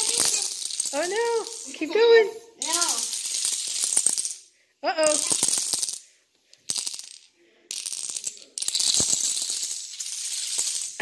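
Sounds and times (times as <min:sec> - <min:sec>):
dominoes toppling on tile: 0:00.0 - 0:11.0.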